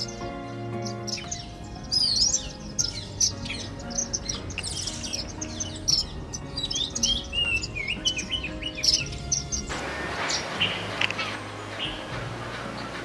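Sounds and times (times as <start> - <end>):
bird whistle: 0.0 - 12.1
small birds chirping: 0.0 - 13.0
soft background music: 0.0 - 13.0.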